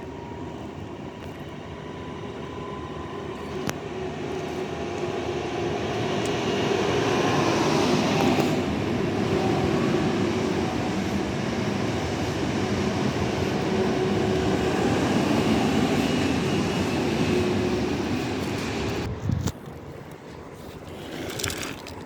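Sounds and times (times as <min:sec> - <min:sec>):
train running on rails: 0:00.0 - 0:19.4.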